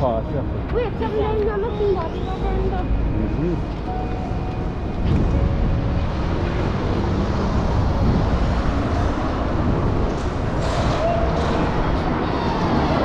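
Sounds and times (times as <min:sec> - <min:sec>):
vehicle noise: 0:00.0 - 0:13.0.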